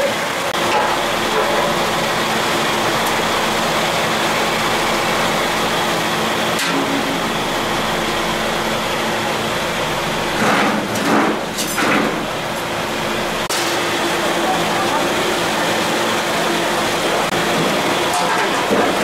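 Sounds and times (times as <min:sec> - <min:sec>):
electric fan whirring: 0:00.0 - 0:19.0.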